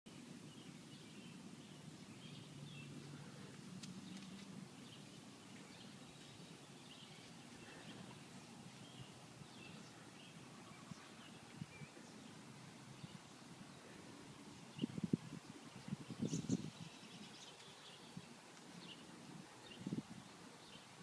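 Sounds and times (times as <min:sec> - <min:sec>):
faint bird chirps: 0:00.1 - 0:20.0.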